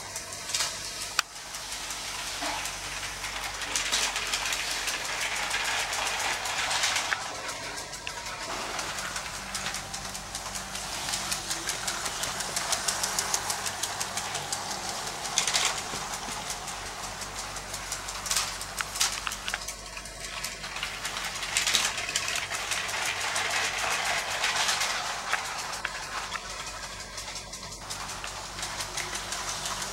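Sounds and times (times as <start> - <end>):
toy train wheels clicking on track: 0.0 - 29.9.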